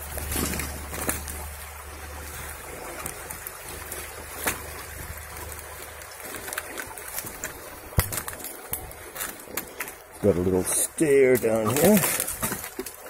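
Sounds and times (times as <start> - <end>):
leaves brushing: 0.0 - 13.0
river flowing: 0.0 - 13.0.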